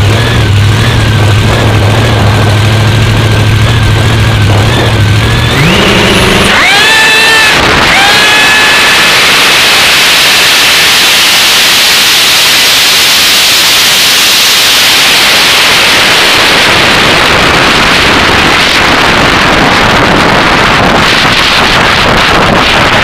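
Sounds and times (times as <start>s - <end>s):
distorted engine roar: 0.0s - 23.0s.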